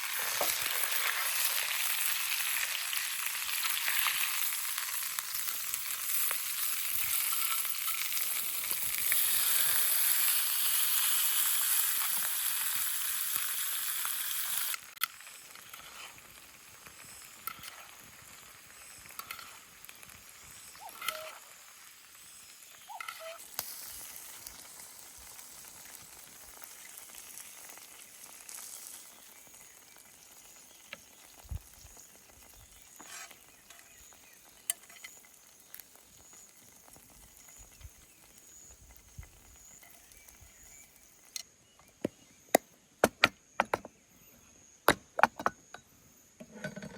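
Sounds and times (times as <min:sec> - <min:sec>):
fish sizzling on a grill: 0:00.0 - 0:41.8.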